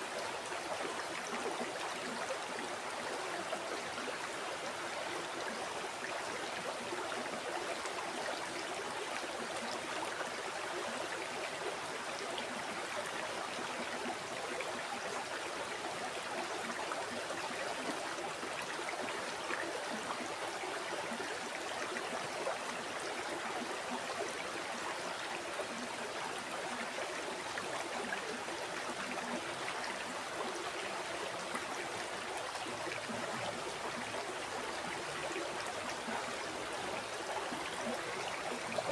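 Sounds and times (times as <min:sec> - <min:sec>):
stream water rushing and bubbling: 0:00.0 - 0:38.9.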